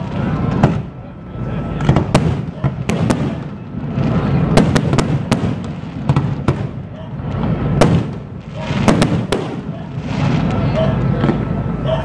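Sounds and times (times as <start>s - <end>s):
continuous low rumble: 0.0s - 12.0s
fireworks bangs: 0.0s - 12.0s.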